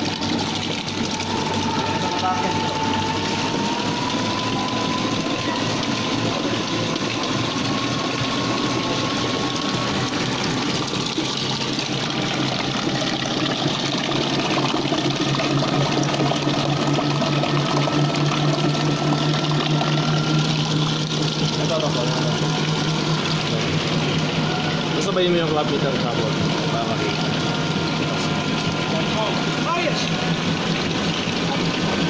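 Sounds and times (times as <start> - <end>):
electric motor whining: 0.0 - 32.0
water churning and spraying: 0.0 - 32.0.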